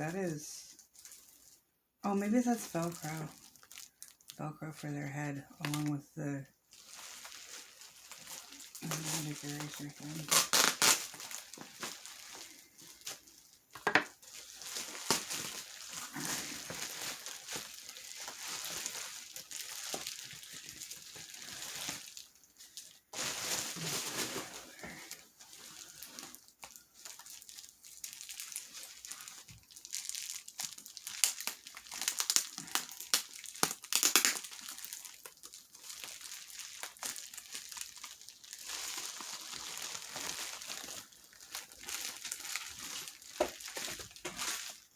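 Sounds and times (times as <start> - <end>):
packaging crinkling: 0.7 - 1.6, 2.3 - 4.4, 6.6 - 44.9.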